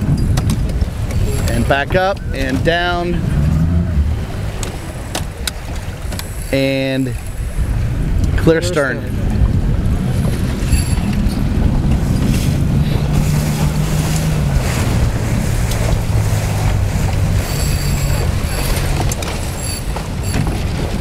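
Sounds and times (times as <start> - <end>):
motorboat engine running: 0.0 - 21.0
wind buffeting microphone: 0.0 - 21.0.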